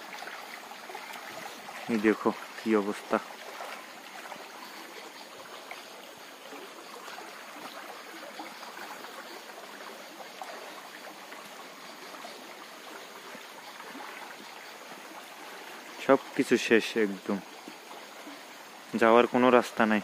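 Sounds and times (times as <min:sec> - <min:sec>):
floodwater flowing: 0:00.0 - 0:20.0.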